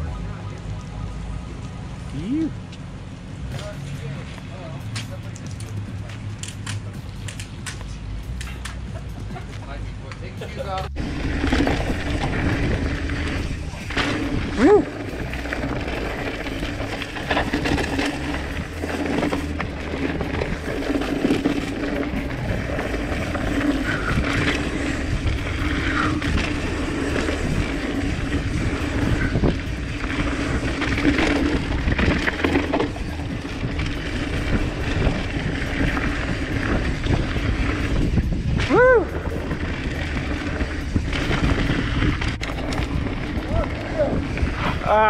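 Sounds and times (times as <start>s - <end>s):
wind noise rumble: 0.0s - 45.0s
tyres crunching over gravel: 1.5s - 45.0s
bike knocking and rattling: 2.6s - 45.0s.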